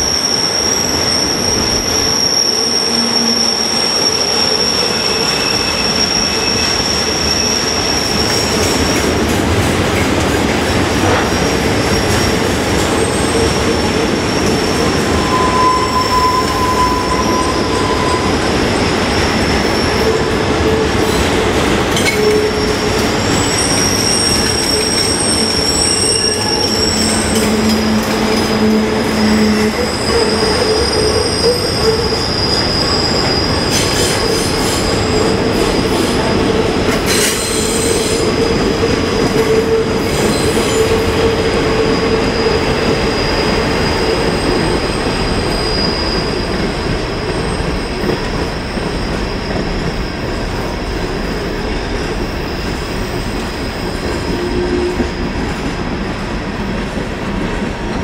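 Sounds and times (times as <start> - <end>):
train wheels squealing on rail: 0.0 - 9.3, 9.9 - 55.9
rumble of train cars: 0.0 - 58.0.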